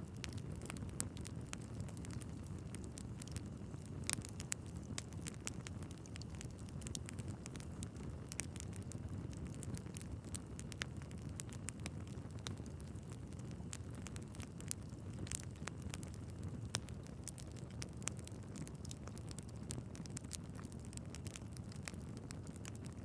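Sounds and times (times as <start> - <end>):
logs crackling and popping: 0.0 - 23.0
low rumble of flames: 0.0 - 23.0.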